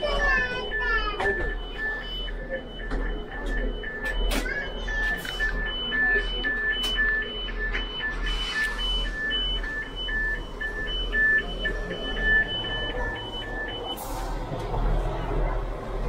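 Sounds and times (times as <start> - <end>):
high-low electronic beeps: 0.0 - 14.4
train hum: 0.0 - 16.0.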